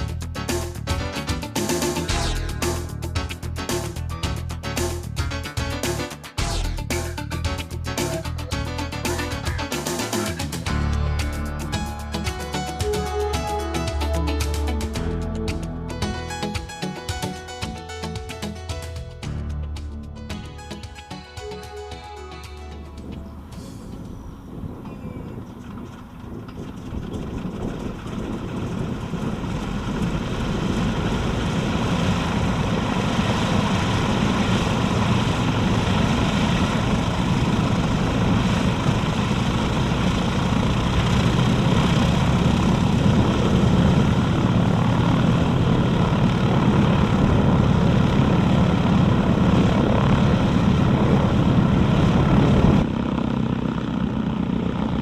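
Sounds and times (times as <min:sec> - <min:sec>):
propeller plane engine running: 0:00.0 - 0:55.0.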